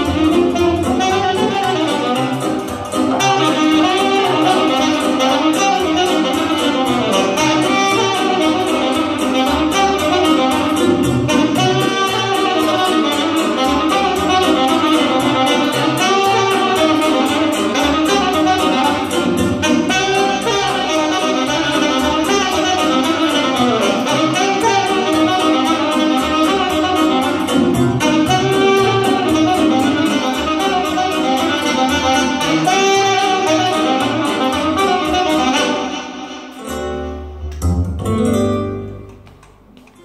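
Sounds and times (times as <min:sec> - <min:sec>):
saxophone melody: 0:00.0 - 0:39.8
electronic keyboard: 0:00.0 - 0:40.0.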